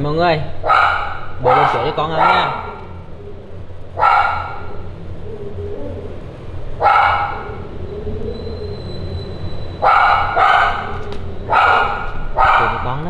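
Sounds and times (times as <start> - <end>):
low steady hum: 0.0 - 13.0
animal crying out: 0.6 - 13.0.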